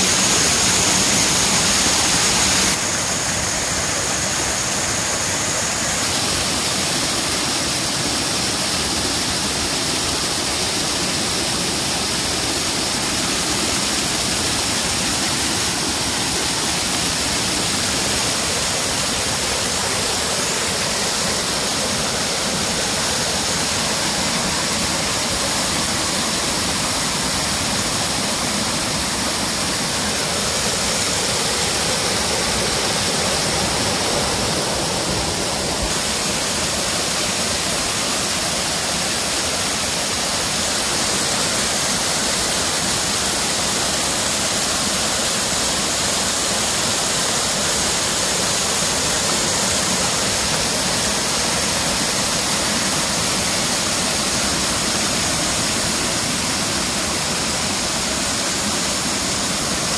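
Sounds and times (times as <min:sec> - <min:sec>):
small waterfall pouring into pool: 0:00.0 - 0:59.9.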